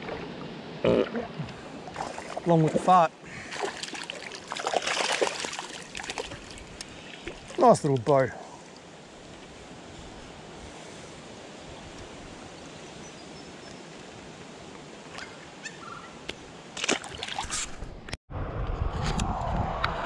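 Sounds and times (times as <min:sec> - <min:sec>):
flowing river water: 0:00.0 - 0:17.8.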